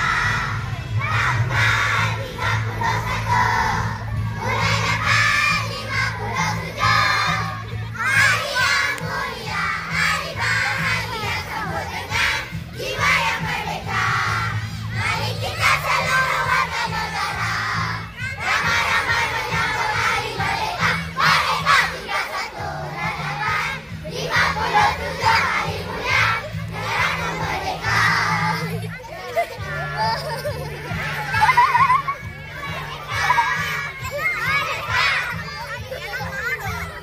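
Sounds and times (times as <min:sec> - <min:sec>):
crowd of children shouting and cheering: 0:00.0 - 0:37.0.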